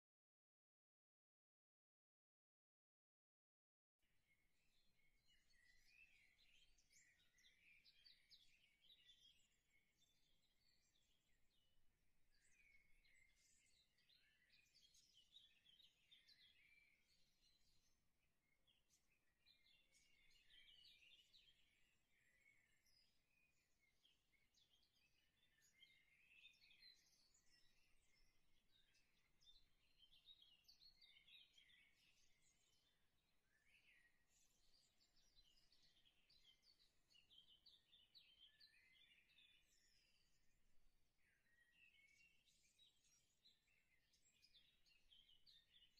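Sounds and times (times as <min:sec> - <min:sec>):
songbirds chirping: 0:04.2 - 0:45.9.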